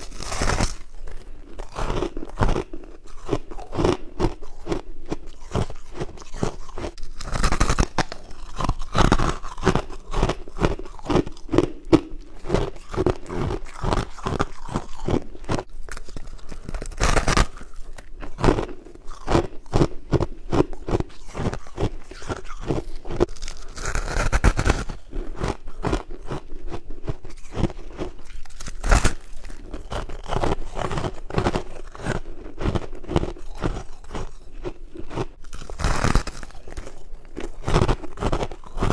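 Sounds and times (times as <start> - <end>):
person crunching frost: 0.0 - 38.9.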